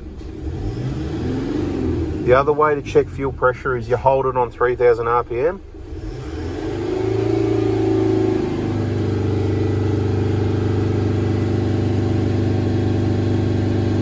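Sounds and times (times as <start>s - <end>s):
diesel engine at raised speed: 0.0s - 14.0s.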